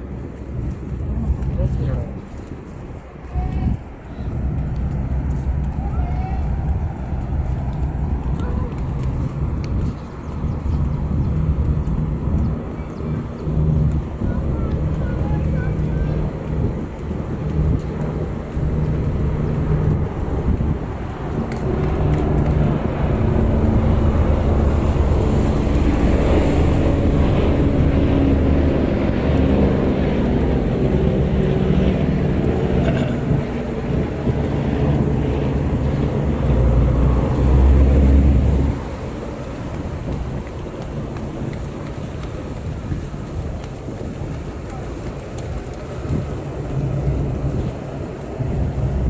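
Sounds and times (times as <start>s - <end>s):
vehicle engine low rumble: 0.0s - 49.0s.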